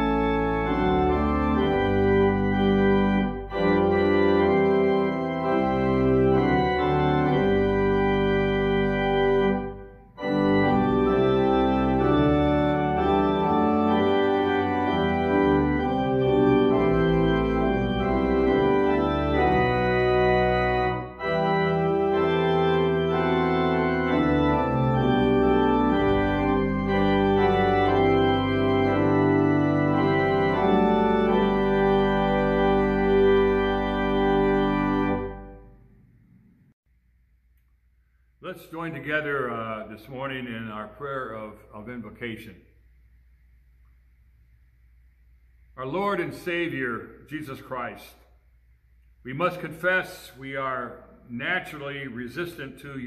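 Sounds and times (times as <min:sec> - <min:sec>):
church organ chords: 0:00.0 - 0:36.8, 0:37.4 - 0:53.0.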